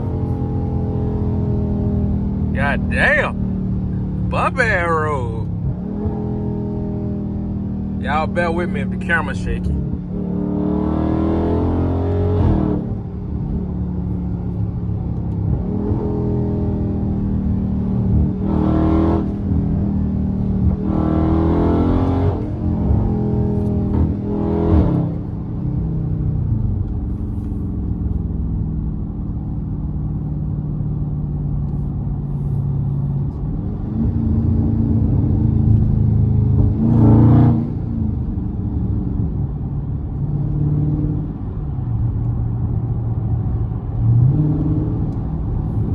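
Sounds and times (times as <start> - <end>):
car engine accelerating hard: 0.0 - 31.8, 32.4 - 45.9.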